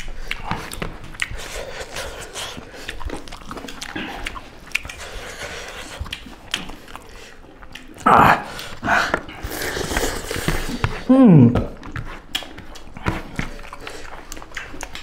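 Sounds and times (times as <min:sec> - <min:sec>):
chewing and mouth smacks: 0:00.0 - 0:15.0.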